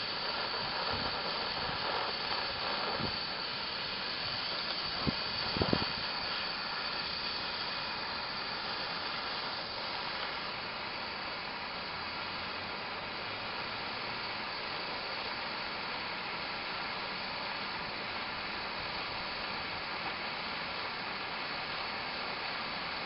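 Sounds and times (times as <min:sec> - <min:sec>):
gas torch flame hissing: 0:00.0 - 0:23.0.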